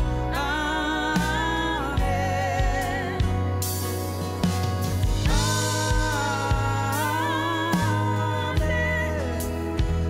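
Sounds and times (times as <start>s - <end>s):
acoustic guitar: 0.0s - 10.0s
bass guitar: 0.0s - 10.0s
piano: 0.0s - 10.0s.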